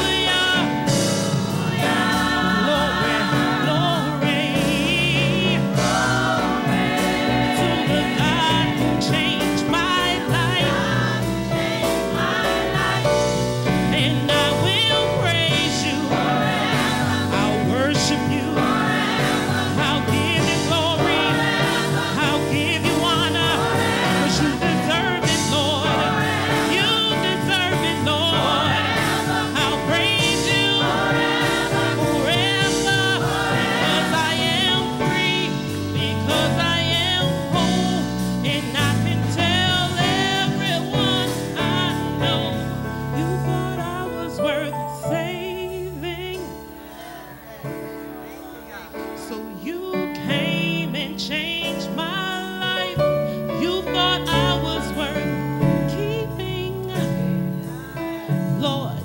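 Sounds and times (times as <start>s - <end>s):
backing singers: 0.0s - 59.0s
instrumental accompaniment: 0.0s - 59.0s
woman singing gospel lead: 0.0s - 59.0s.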